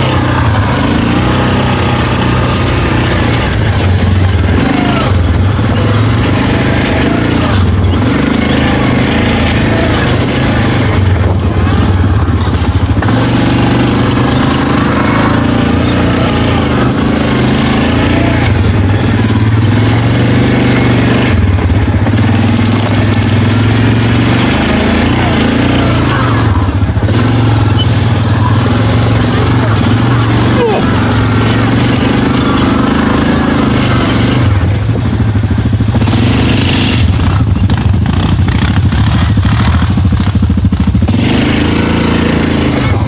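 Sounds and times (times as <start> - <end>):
quad bike engine revving: 0.0 - 43.0.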